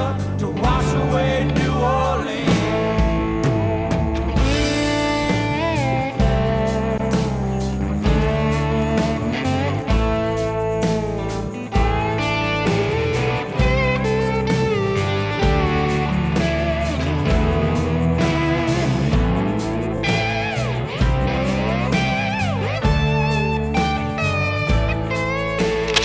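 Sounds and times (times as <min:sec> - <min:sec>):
band backing: 0:00.0 - 0:26.0
slide guitar: 0:00.0 - 0:26.0.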